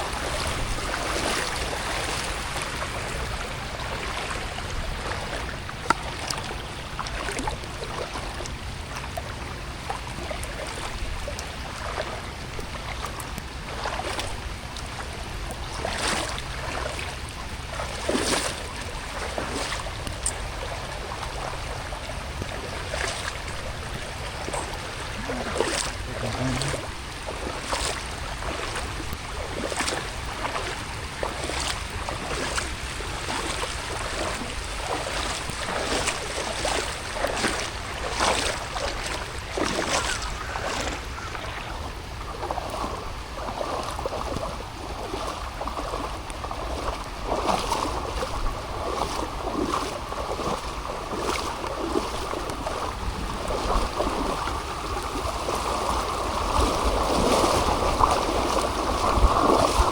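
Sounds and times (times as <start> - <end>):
rain patter and splashes: 0.0 - 59.9.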